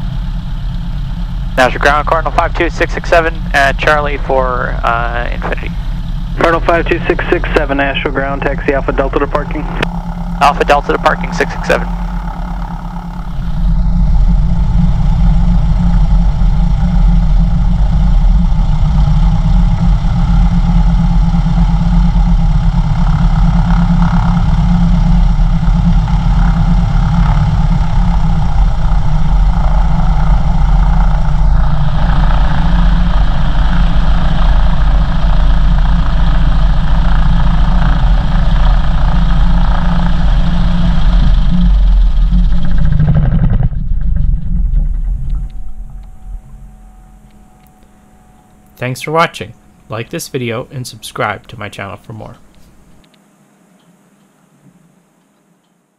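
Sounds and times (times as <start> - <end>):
airplane engine and propeller running: 0.0 - 55.0.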